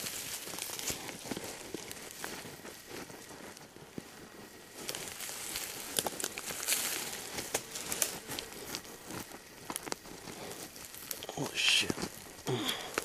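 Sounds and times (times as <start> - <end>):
hand rustling dry leaves: 0.0 - 13.0.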